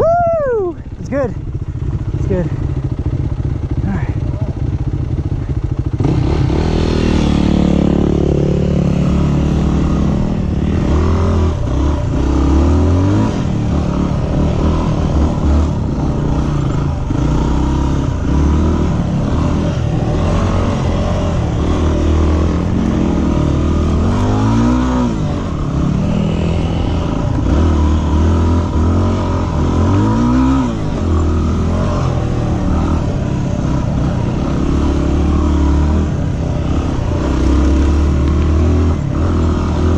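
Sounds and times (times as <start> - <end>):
motorcycle engine revving: 1.0 - 39.9.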